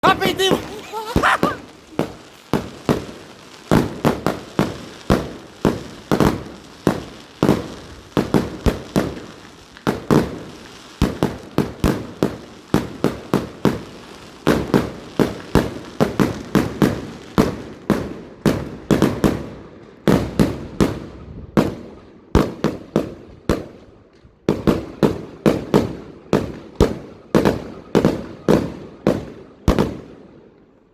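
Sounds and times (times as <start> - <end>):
fireworks bangs: 0.0 - 30.8.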